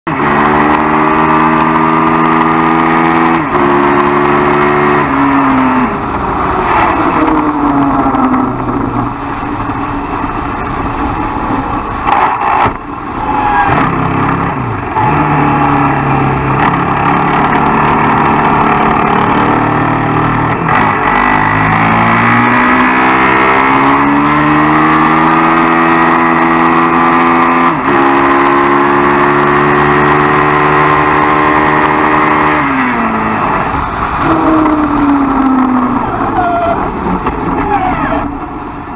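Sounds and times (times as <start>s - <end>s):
motorcycle engine revving through gears: 0.1s - 38.9s.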